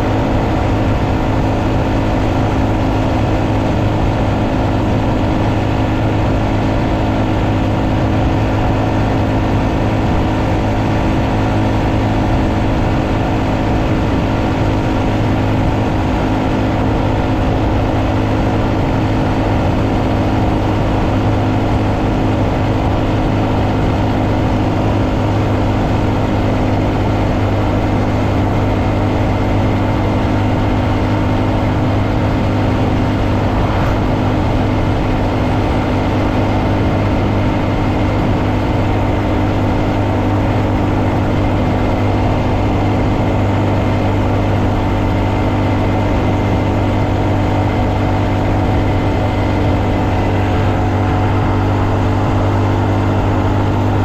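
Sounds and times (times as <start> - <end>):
motorcycle engine cruising: 0.0 - 54.0
road noise: 0.0 - 54.0
wind noise: 0.0 - 54.0.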